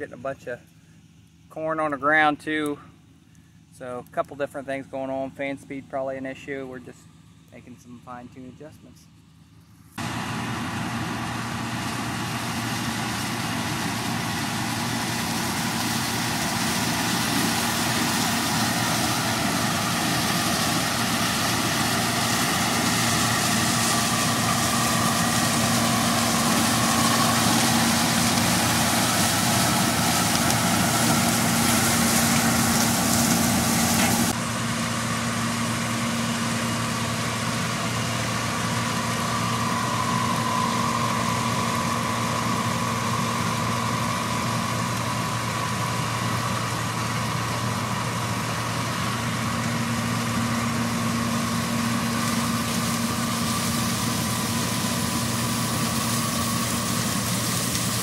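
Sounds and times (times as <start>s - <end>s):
combine harvester engine and machinery: 0.0s - 58.0s.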